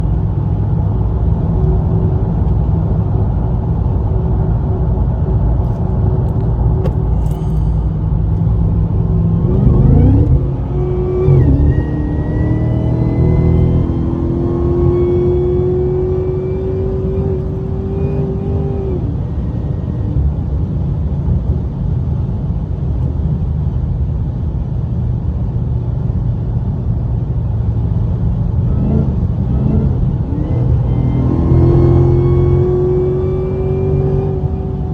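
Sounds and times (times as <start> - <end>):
car engine and exhaust drone: 0.0 - 34.9
supercharger whine: 0.0 - 34.9.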